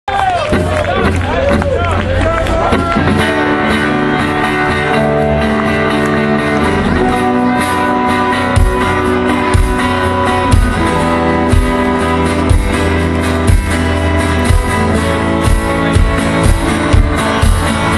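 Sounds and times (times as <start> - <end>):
rock band playing: 0.1 - 17.9
bass drum beating: 0.5 - 17.9
guitar chords strummed: 0.5 - 17.9.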